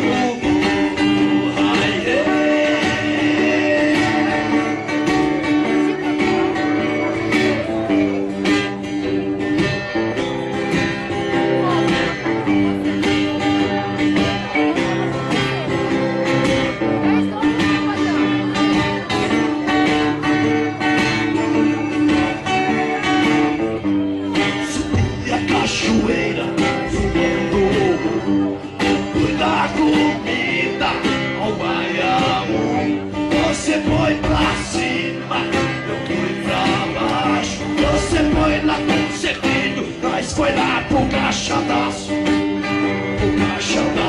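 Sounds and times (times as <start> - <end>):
acoustic guitar strummed and picked: 0.0 - 44.0.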